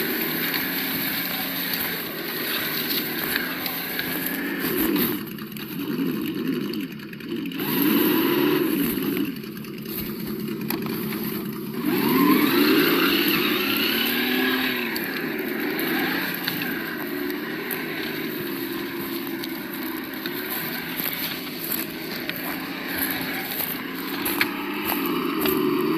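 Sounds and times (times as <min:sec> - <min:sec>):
simulated engine revving: 0:00.0 - 0:25.9.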